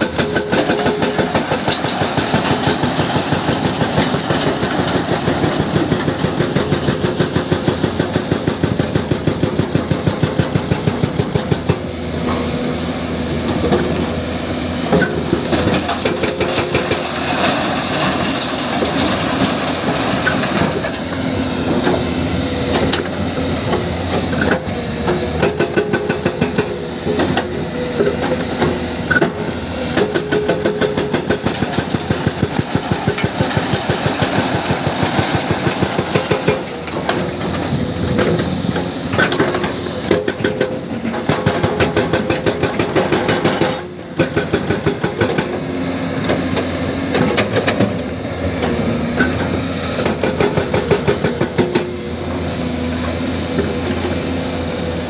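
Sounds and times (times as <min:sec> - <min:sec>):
hydraulic breaker hammering rock: 0:00.0 - 0:12.6, 0:13.3 - 0:55.0
diesel engine running: 0:00.0 - 0:55.0.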